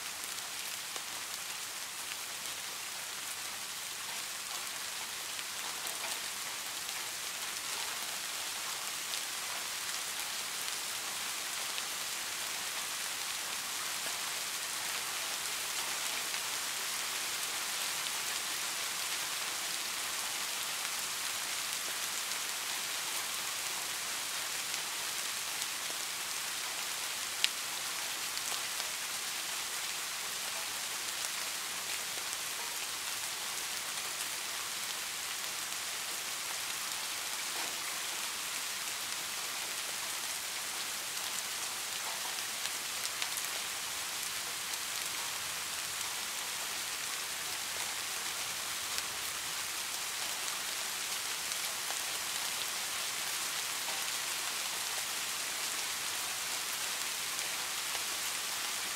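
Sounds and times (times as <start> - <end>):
steady rain pattering: 0.0 - 58.9.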